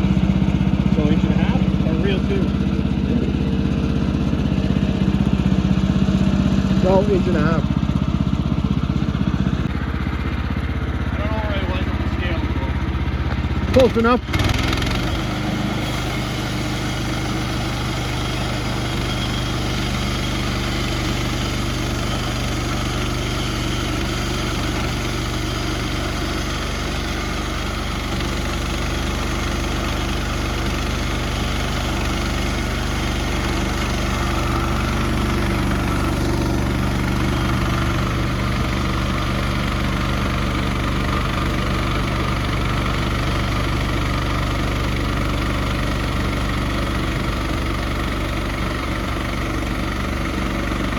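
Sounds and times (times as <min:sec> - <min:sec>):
sawmill engine running: 0:00.0 - 0:50.9.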